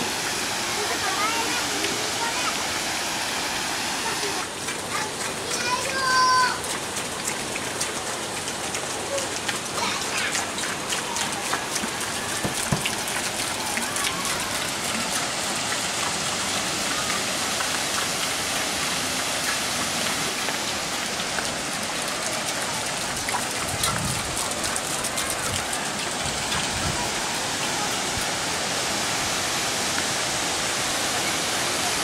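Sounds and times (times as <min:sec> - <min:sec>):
water splashing onto water wheel: 0:00.0 - 0:32.0.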